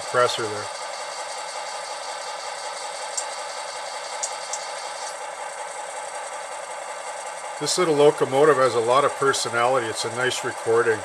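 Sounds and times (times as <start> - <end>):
air compressor running: 0.0 - 11.0
model diesel locomotive idling: 0.0 - 11.0.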